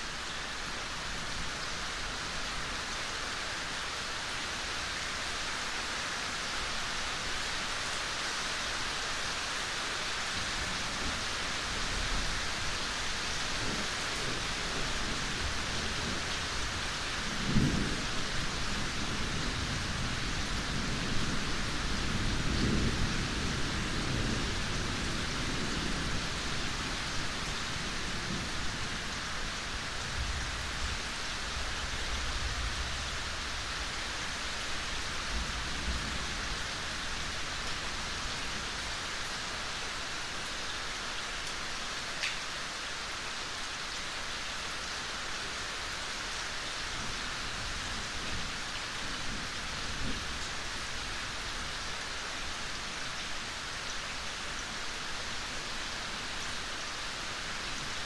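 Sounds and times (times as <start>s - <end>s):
gentle rain in a forest: 0.0s - 58.0s.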